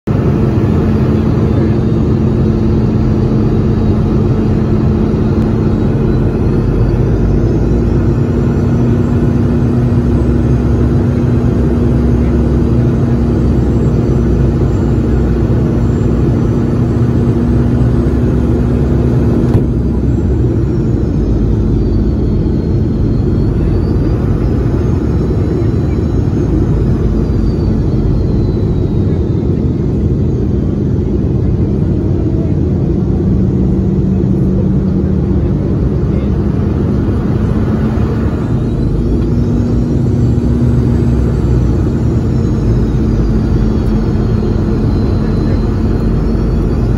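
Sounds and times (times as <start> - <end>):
airplane cabin rumble: 0.0 - 46.9
faint wavering high whine: 0.1 - 46.9
steady low hum: 0.1 - 46.9.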